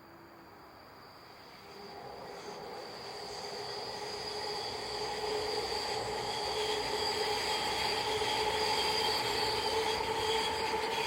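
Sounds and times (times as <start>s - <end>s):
high whine of held tones: 0.0s - 11.0s
light-rail train rumbling by: 0.0s - 11.0s.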